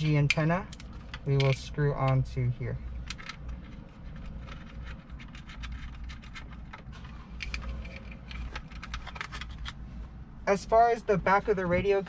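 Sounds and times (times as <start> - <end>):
cables rustling and scraping: 0.0 - 10.2
low steady hum: 0.0 - 12.0.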